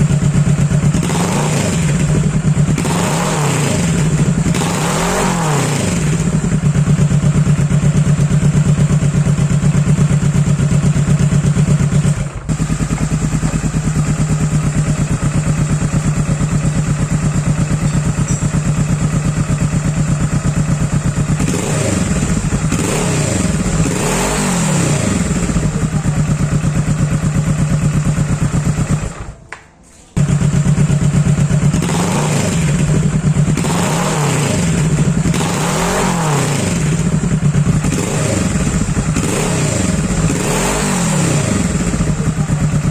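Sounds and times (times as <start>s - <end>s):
motorcycle exhaust idling: 0.0s - 29.4s, 30.2s - 42.9s
motorcycle revving: 0.0s - 29.4s, 30.2s - 42.9s.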